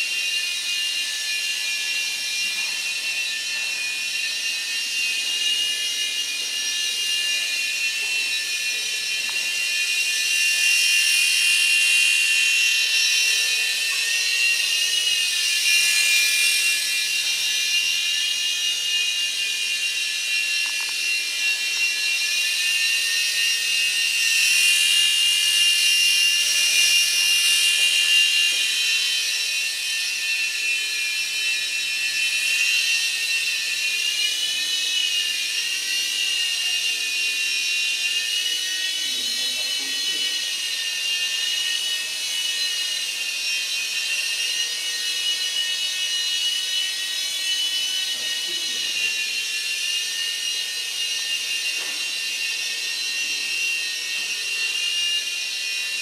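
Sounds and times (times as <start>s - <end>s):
toy helicopter motors whining: 0.0s - 56.0s.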